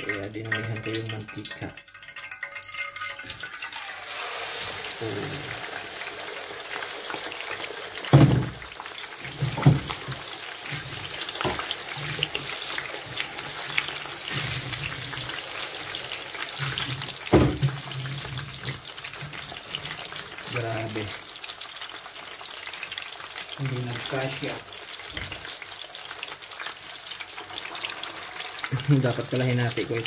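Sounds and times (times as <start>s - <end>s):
fish frying in hot oil: 0.0s - 30.0s.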